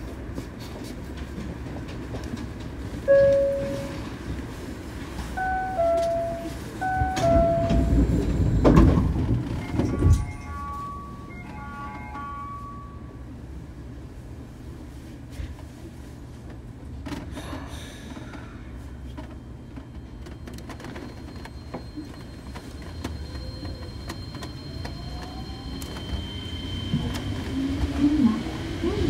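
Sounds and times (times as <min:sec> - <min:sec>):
train cabin low rumble: 0:00.0 - 0:29.0.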